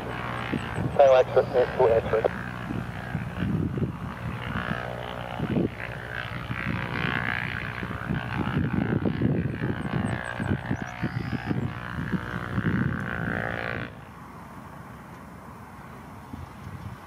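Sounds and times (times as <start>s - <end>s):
turboprop aircraft engines rumbling: 0.0s - 17.0s.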